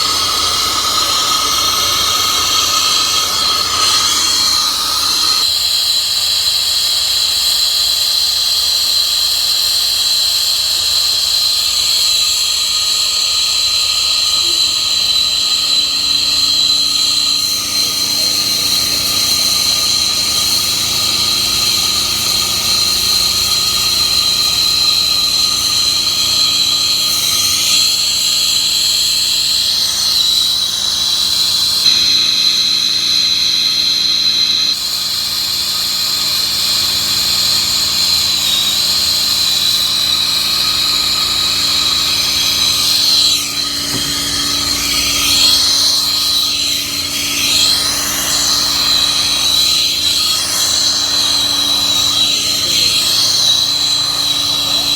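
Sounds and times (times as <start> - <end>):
torch flame hissing: 0.0 - 5.9, 14.1 - 54.9
high whistle: 0.0 - 8.1, 8.8 - 54.9.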